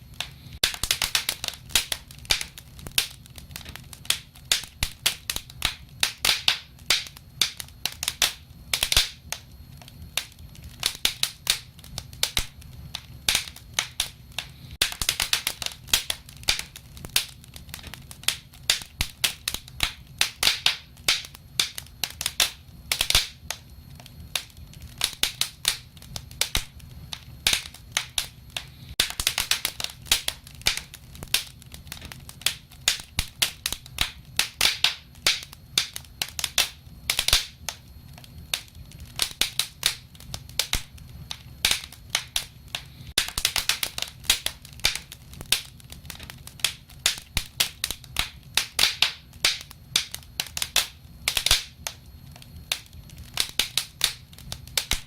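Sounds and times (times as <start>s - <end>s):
fire pops and snaps: 0.0s - 55.0s
low rumble of flames: 0.0s - 55.0s.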